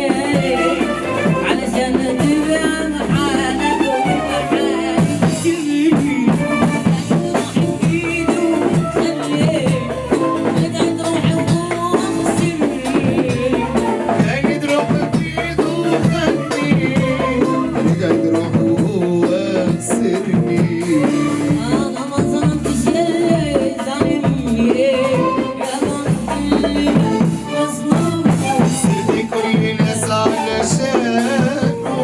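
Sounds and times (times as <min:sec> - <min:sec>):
band playing melodic instruments: 0:00.0 - 0:32.0
man singing: 0:00.0 - 0:32.0.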